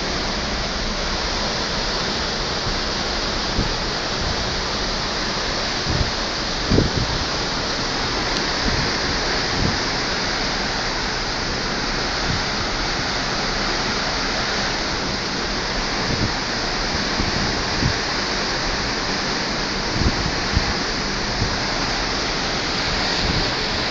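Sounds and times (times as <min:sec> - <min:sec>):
seawater rushing along hull: 0:00.0 - 0:23.9.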